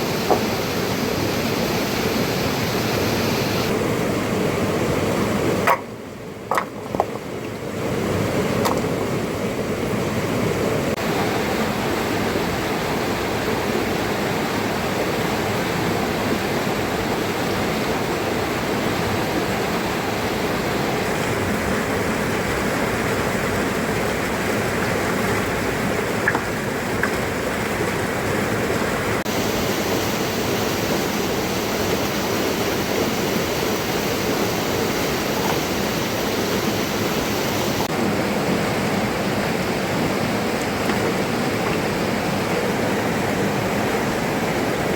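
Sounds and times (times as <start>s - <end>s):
water rushing: 0.0s - 44.9s.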